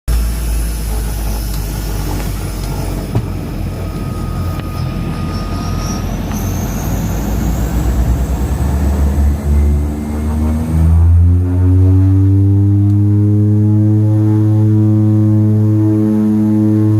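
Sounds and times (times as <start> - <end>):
turboprop aircraft taking off: 0.1 - 16.9.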